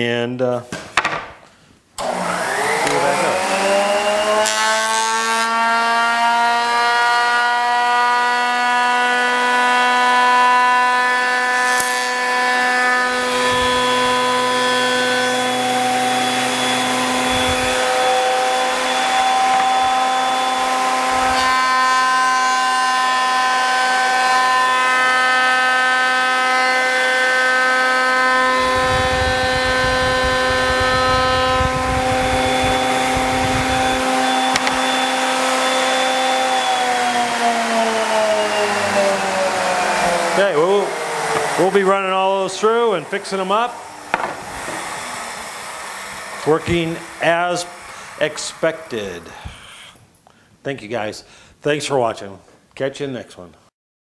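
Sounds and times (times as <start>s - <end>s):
thickness planer whining: 2.0s - 50.1s.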